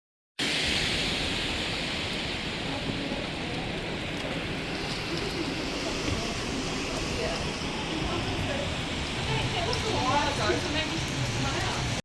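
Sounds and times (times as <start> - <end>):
rain hissing: 0.4 - 12.0.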